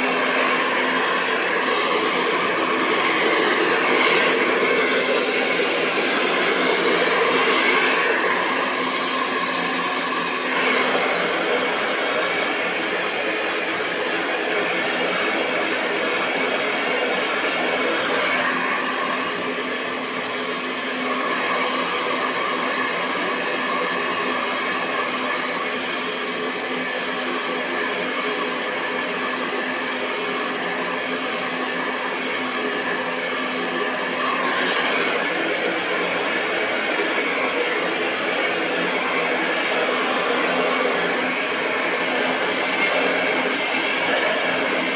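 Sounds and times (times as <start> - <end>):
hair dryer running: 0.0 - 44.9.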